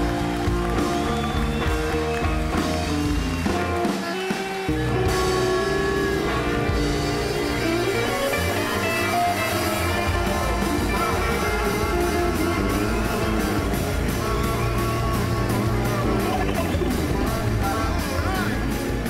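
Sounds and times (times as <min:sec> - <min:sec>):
rock music with guitar: 0:00.0 - 0:19.0
steady drum beat: 0:00.0 - 0:19.0.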